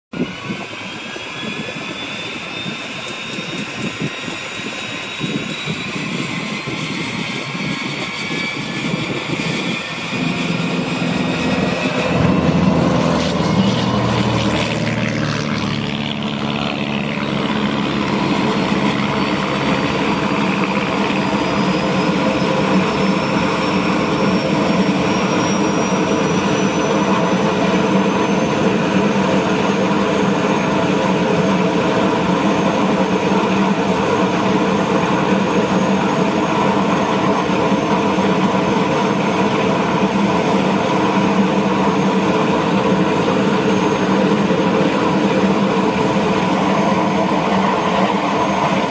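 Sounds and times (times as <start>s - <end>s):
helicopter turbine drone: 0.1s - 48.9s
high turbine whine: 0.1s - 48.9s.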